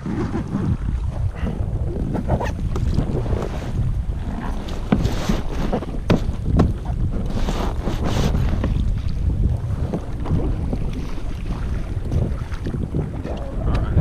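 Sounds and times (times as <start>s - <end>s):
water sloshing against plastic hull: 0.0s - 14.0s
wind buffeting microphone: 0.0s - 14.0s.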